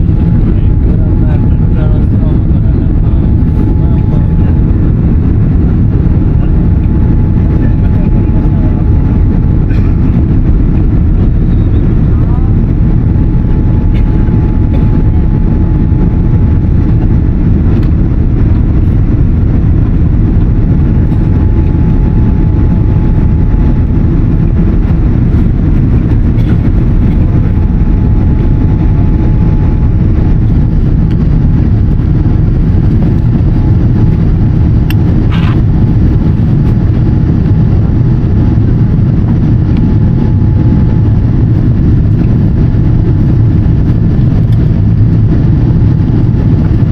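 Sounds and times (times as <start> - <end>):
jet engine rumble in cabin: 0.0 - 46.9.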